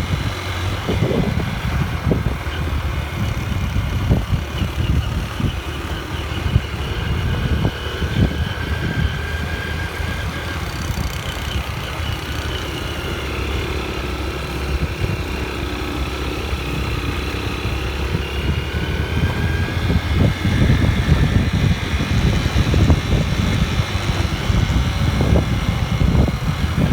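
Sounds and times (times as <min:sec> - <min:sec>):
motorbike engine running: 0:00.0 - 0:26.9
wind gusting over microphone: 0:00.0 - 0:26.9.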